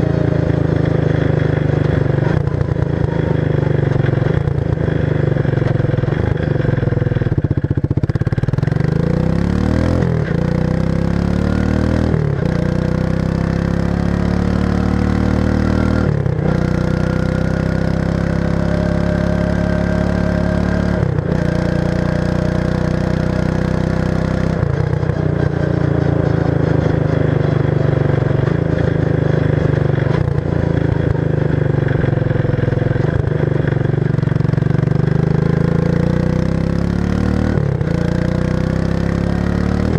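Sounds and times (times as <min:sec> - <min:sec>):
atv engine loud open exhaust: 0:00.0 - 0:39.9.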